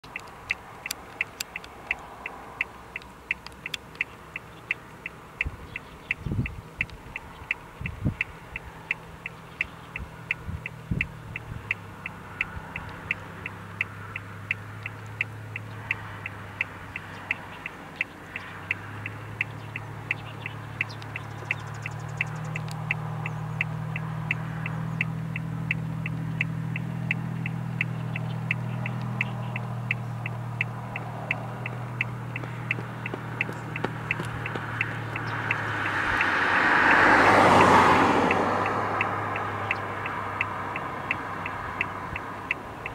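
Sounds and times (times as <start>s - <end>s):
road traffic engine hum: 0.0s - 42.9s
steady high ticking: 0.0s - 42.9s
vehicle passing close: 0.0s - 42.9s.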